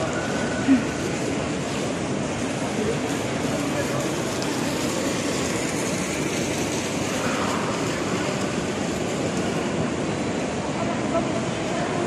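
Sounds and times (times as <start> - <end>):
shopping hall ambient noise: 0.0 - 12.0.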